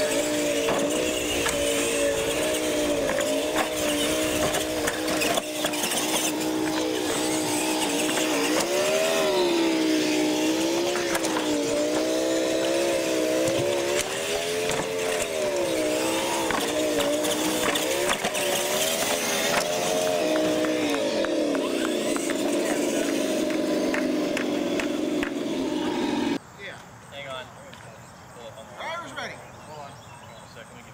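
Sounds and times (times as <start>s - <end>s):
toy truck motors whining: 0.0s - 26.4s.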